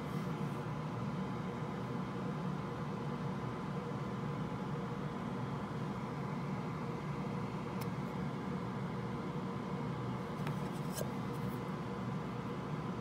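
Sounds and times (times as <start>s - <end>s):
machine hum with whir: 0.0s - 13.0s.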